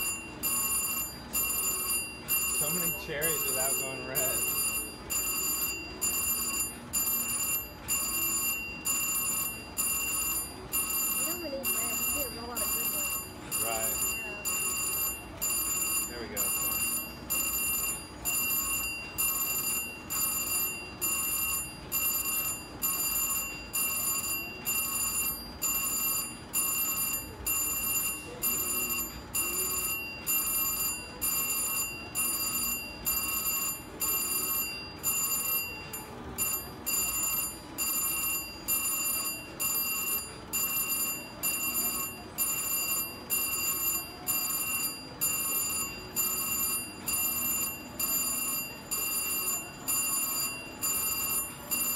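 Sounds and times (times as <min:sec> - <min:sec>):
slot machine ringing beeps: 0:00.0 - 0:51.9.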